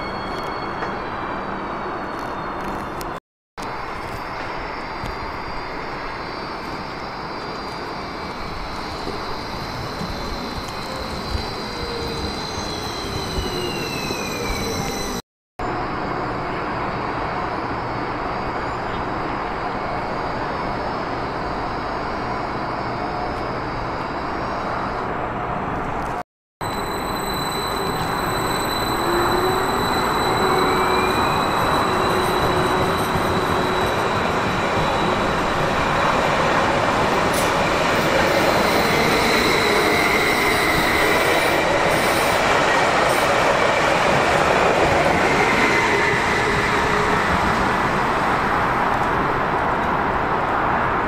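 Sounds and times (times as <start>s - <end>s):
train rolling noise: 0.0s - 51.0s.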